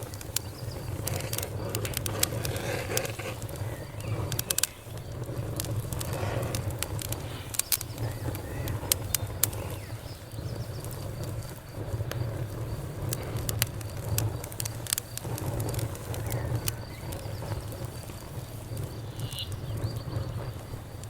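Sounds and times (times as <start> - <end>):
campfire crackling: 0.0 - 21.0
sharp pops: 0.0 - 21.0.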